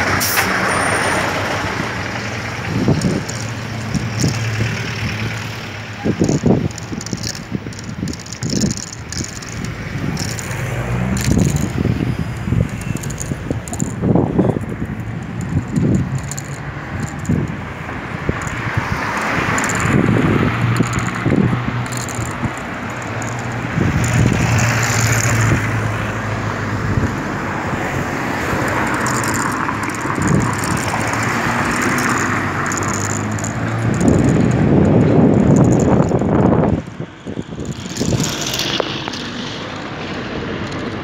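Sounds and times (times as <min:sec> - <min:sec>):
bicycle road noise: 0:00.0 - 0:41.0
vehicles passing: 0:00.0 - 0:41.0
short rattles and knocks: 0:02.0 - 0:25.6, 0:28.3 - 0:41.0.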